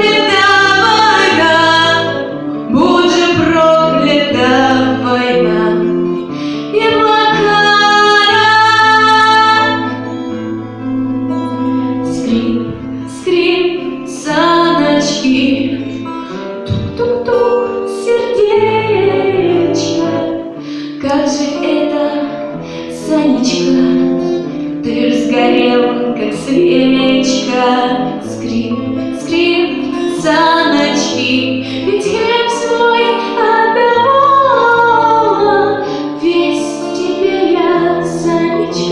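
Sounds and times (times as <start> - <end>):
woman singing: 0.0 - 10.3, 11.9 - 38.9
instrumental accompaniment: 0.0 - 38.9.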